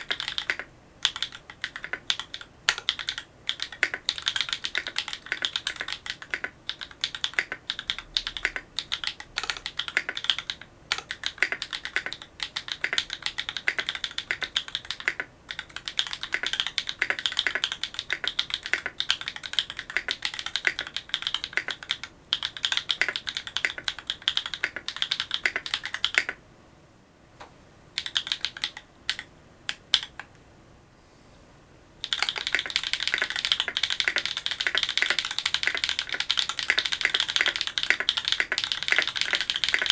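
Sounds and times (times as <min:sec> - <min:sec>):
fast typing on mechanical keyboard: 0:00.0 - 0:26.4, 0:28.0 - 0:30.3, 0:32.0 - 0:39.9.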